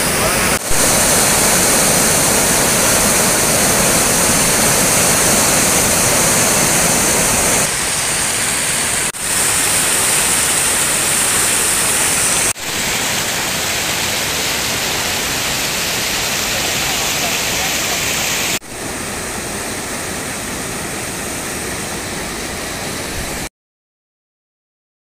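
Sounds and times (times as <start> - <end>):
floodwater rushing over dam: 0.0 - 23.5.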